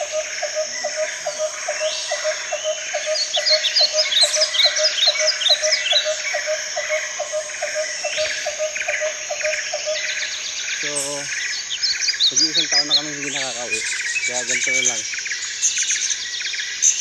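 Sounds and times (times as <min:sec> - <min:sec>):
low repeated animal call: 0:00.0 - 0:15.6
bird chirps: 0:00.0 - 0:17.0.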